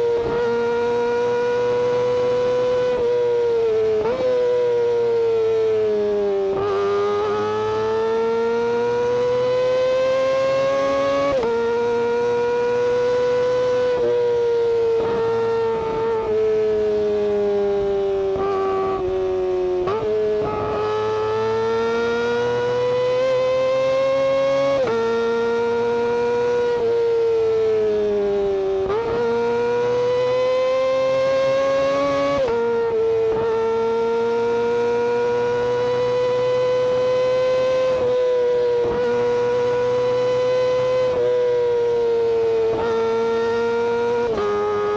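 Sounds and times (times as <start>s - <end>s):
motorcycle engine at high revs: 0.0s - 44.9s.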